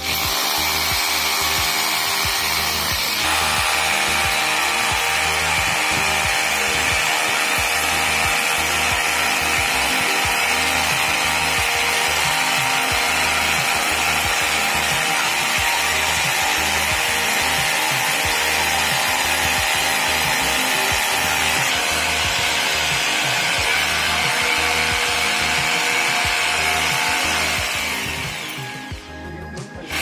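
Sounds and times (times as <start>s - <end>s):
rotary hammer drill boring concrete: 0.0s - 29.1s, 29.7s - 30.0s.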